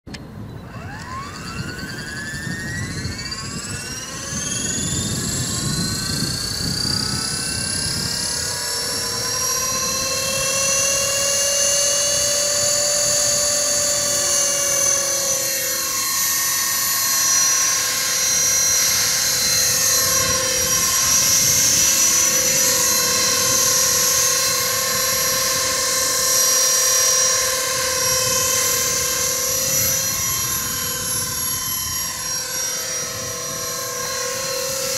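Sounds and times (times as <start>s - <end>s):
rc helicopter motor whine: 0.1s - 34.9s
rotor whirring: 0.2s - 34.9s.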